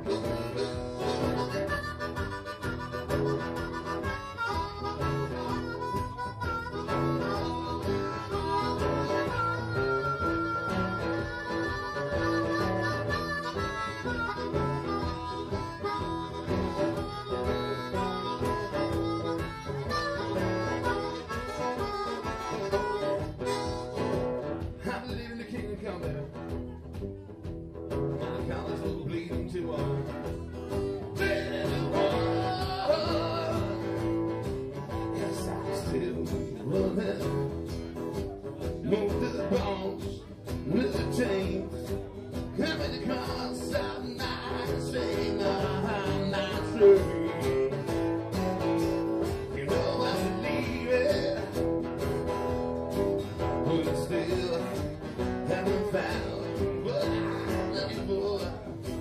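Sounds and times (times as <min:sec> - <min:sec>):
blues band playing: 0:00.0 - 0:59.0
electric guitar: 0:00.0 - 0:59.0.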